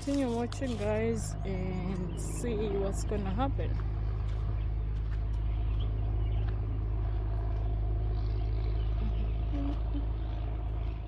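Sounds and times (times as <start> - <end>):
water pump engine droning: 0.0 - 11.0.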